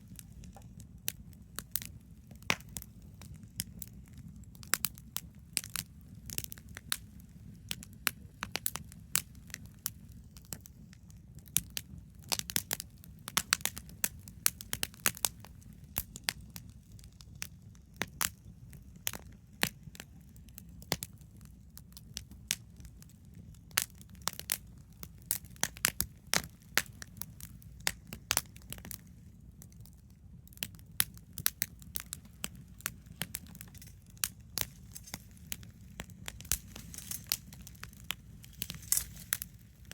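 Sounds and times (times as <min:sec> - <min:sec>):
campfire crackling: 0:00.0 - 0:39.9
low fire rumble: 0:00.0 - 0:39.9.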